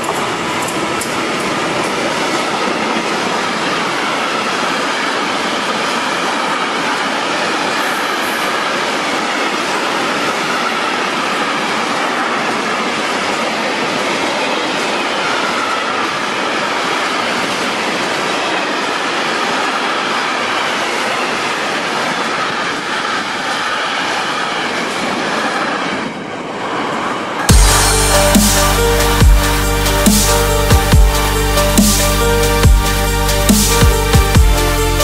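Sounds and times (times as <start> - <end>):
freight train passing: 0.0 - 35.0.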